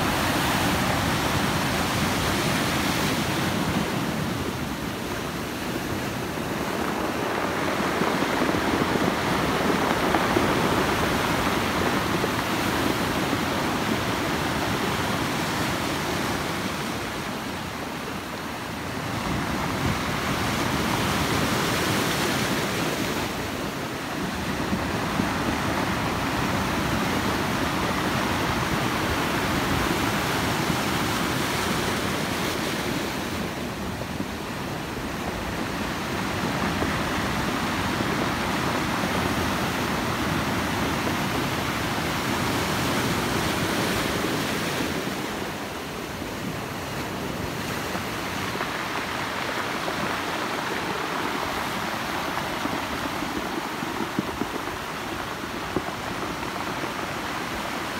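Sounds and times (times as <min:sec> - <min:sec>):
surf washing over beach: 0:00.0 - 0:57.9.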